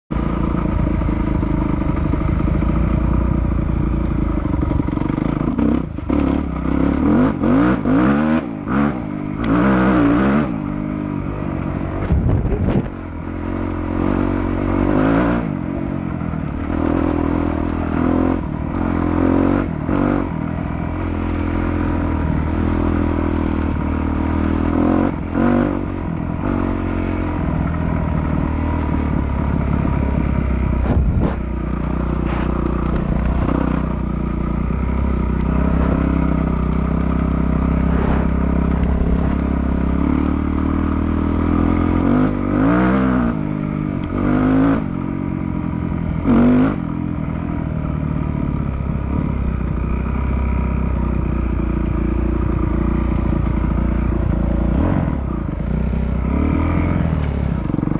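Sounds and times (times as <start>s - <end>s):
motorcycle engine revving: 0.1s - 57.9s.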